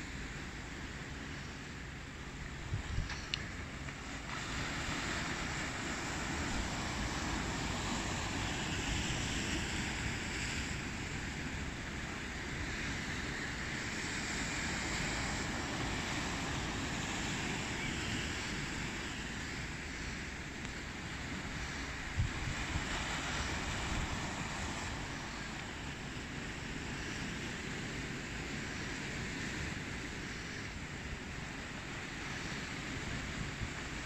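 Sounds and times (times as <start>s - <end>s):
sea waves: 0.0s - 34.0s
wind: 0.0s - 34.0s.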